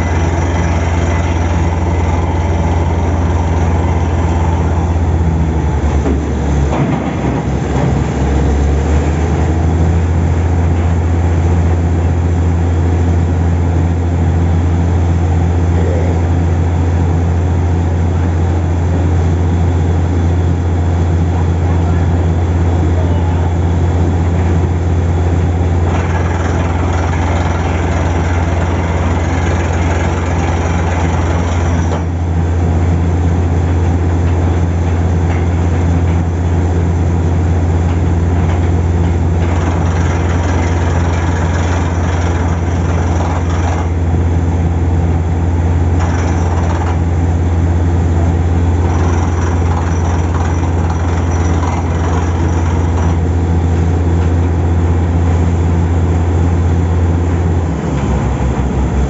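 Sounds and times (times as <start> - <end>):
drilling rig droning: 0.0 - 11.8, 18.9 - 59.0.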